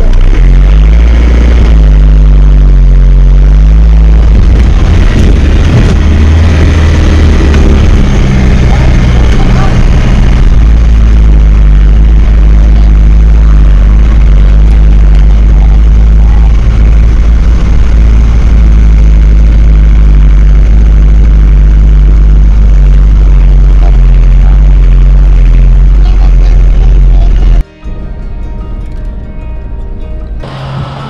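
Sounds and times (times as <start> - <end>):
van engine rumbling: 0.0 - 31.0.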